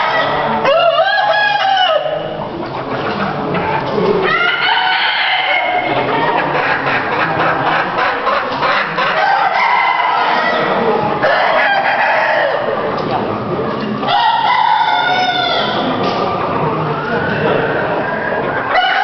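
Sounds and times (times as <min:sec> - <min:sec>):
roosters crowing: 0:00.0 - 0:12.9, 0:13.9 - 0:19.0
chickens clucking: 0:00.0 - 0:19.0.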